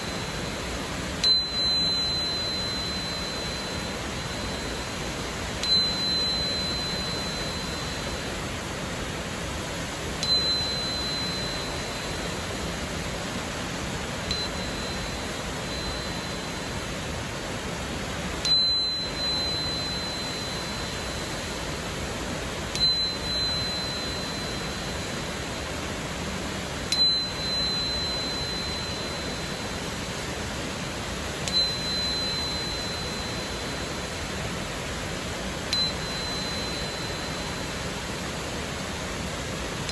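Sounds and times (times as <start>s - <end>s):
tuning crystal ringing tone: 0.0s - 39.9s.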